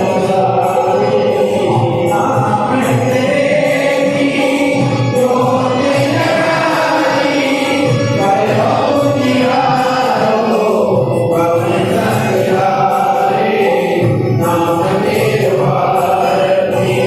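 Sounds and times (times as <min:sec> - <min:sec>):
group chanting in chorus: 0:00.0 - 0:17.0
music: 0:00.0 - 0:17.0.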